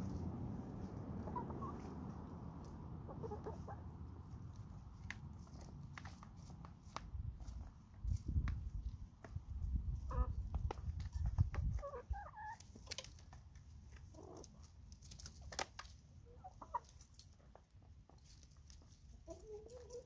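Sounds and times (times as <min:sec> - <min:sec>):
hens clucking: 0:00.0 - 0:07.7, 0:08.8 - 0:20.0.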